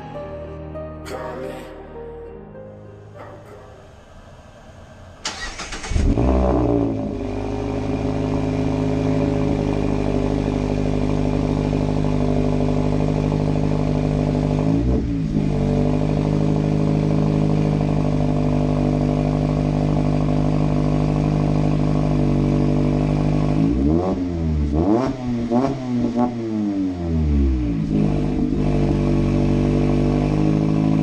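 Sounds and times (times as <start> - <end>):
car engine revving and idling: 3.9 - 31.0.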